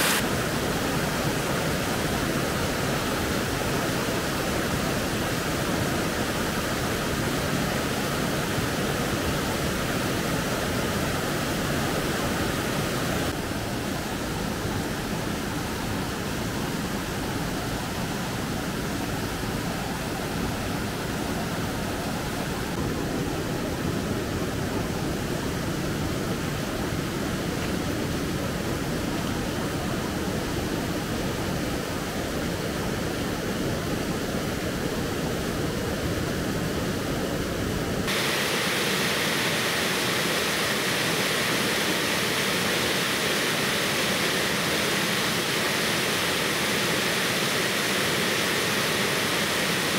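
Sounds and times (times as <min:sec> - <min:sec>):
rush of flowing water: 0:00.0 - 0:49.9.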